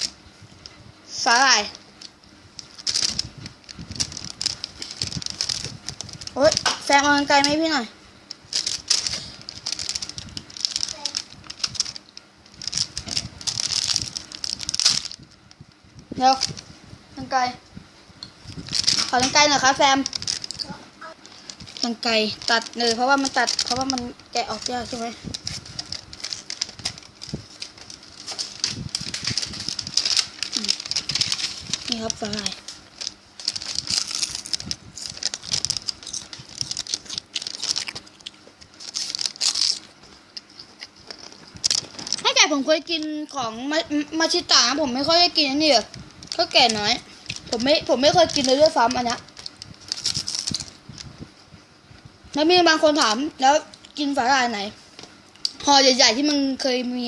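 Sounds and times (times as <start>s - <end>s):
plastic packet crinkling: 1.4s - 16.7s, 18.4s - 51.2s.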